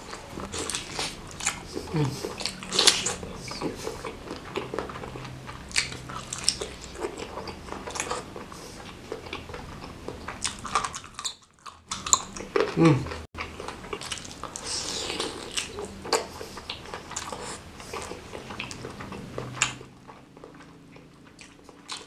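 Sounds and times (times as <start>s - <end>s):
biting and chewing: 0.0s - 22.0s.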